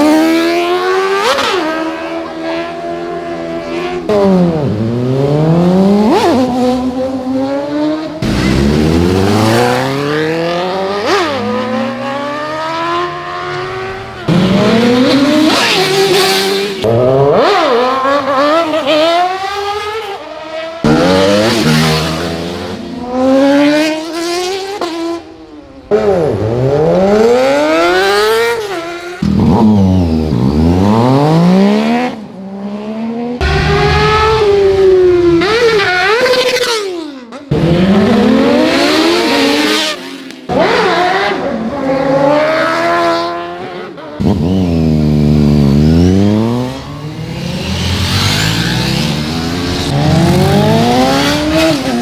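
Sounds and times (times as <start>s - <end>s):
superbike engines revving past: 0.0s - 52.0s.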